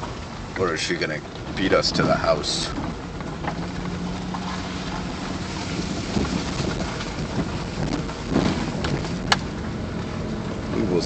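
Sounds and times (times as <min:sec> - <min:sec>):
low engine hum: 0:00.0 - 0:11.0
tyres rumbling on rough track: 0:00.0 - 0:11.0.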